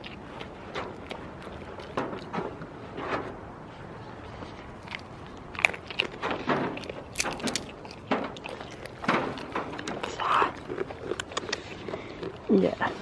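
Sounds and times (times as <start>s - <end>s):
goats crunching and chewing: 0.0s - 13.0s.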